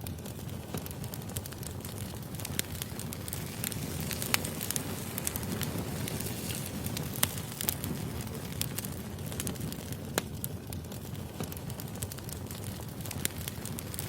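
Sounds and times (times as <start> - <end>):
firewood crackling and popping: 0.0 - 14.0
low rumble of flames: 0.0 - 14.0.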